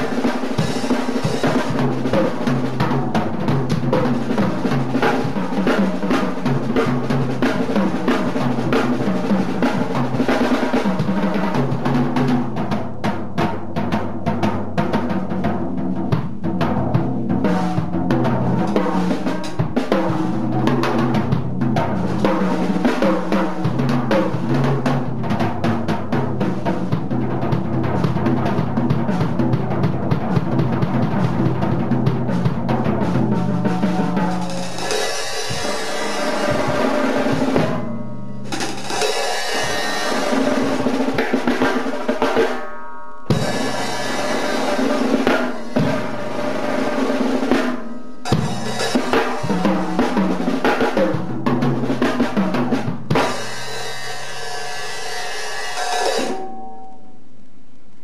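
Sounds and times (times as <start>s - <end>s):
acoustic drum kit played hard: 0.0s - 57.0s.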